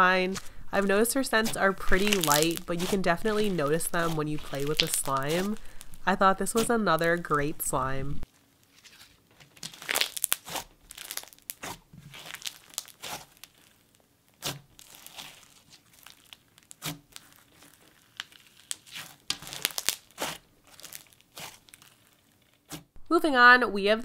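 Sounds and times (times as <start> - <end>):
slime crackling when squeezed: 0.7 - 7.7, 8.6 - 22.8.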